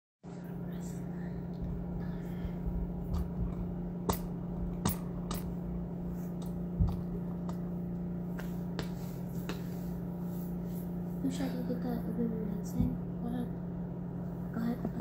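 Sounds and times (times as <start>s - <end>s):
low hum: 0.2s - 15.0s.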